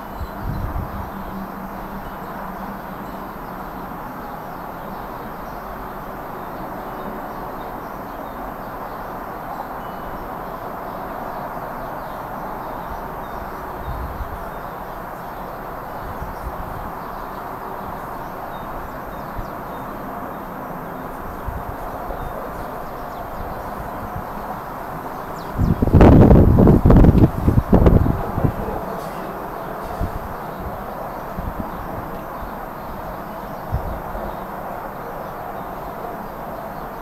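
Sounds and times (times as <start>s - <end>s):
wind buffeting microphone: 0.0s - 3.9s, 10.1s - 37.0s
songbirds chirping: 0.0s - 37.0s.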